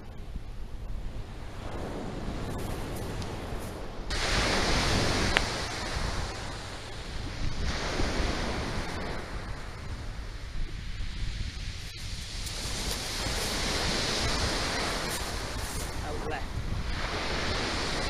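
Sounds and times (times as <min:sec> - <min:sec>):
surf on shingle beach: 0:00.0 - 0:18.0
wind: 0:00.0 - 0:18.0.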